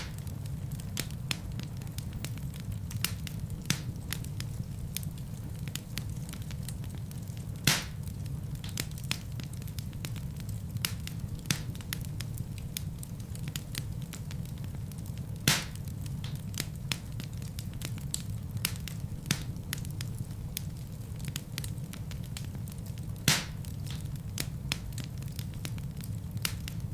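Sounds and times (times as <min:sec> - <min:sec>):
flames rumbling: 0:00.0 - 0:26.9
logs crackling and snapping: 0:00.0 - 0:26.9
loud fire pops: 0:00.0 - 0:26.9.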